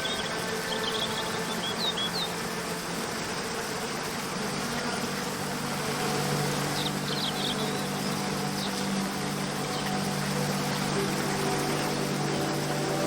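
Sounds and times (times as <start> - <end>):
birds chirping: 0.0 - 13.0
low drone background music: 0.0 - 13.0
waterfall rushing: 0.0 - 13.0.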